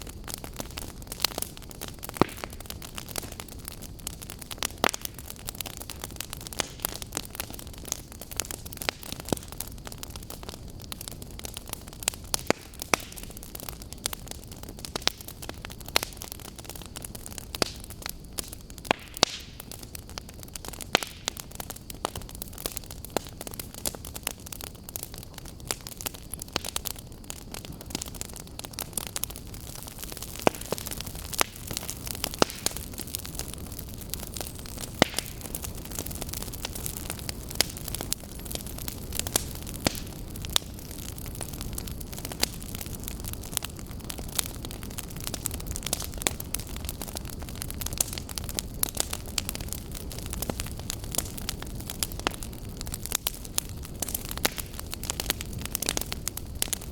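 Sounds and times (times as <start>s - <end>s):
fire crackling and popping: 0.0s - 56.9s.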